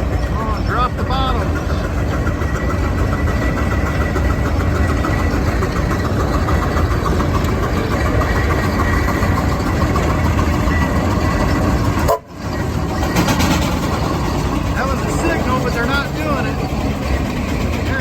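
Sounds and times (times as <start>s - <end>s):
steam traction engine running: 0.0s - 18.0s.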